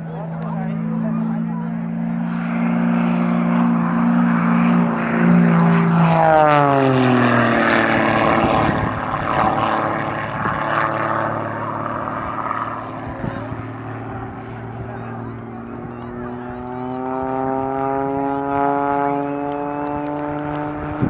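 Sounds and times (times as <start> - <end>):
propeller airplane flying past: 0.0 - 21.0.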